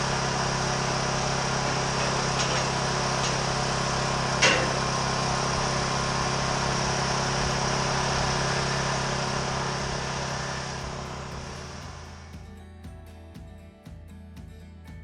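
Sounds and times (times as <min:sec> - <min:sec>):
welding arc hiss: 0:00.0 - 0:12.4
engine-like hum: 0:00.0 - 0:12.5.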